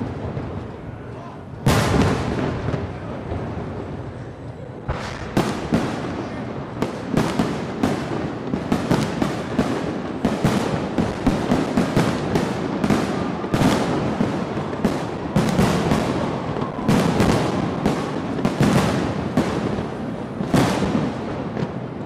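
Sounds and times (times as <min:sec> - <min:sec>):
low fireworks rumble: 0:00.0 - 0:22.0
sharp firework bangs: 0:01.6 - 0:04.2, 0:04.8 - 0:22.0.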